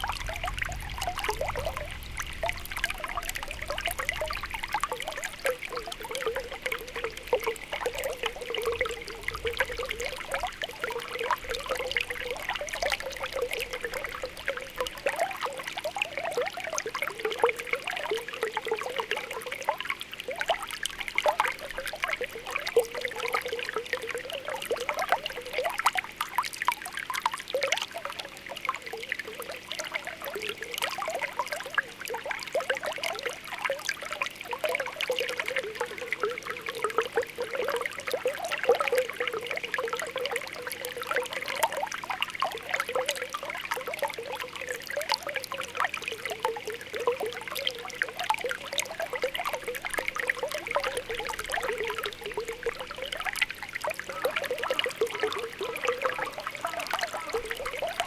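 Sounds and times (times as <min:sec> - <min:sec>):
spring water bubbling: 0:00.0 - 0:58.0.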